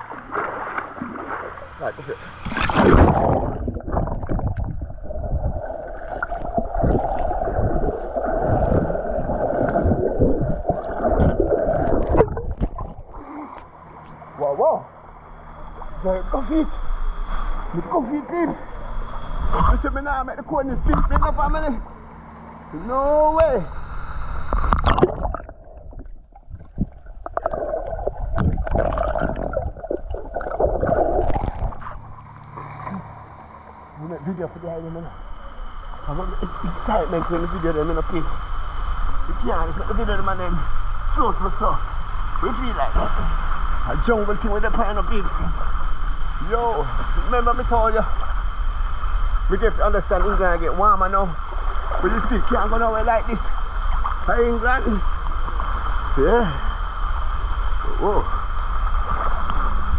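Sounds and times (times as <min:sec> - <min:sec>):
water splashing and gurgling: 0:00.0 - 0:14.5, 0:24.4 - 0:34.2, 0:36.0 - 0:59.9
low rumble: 0:00.0 - 0:59.9.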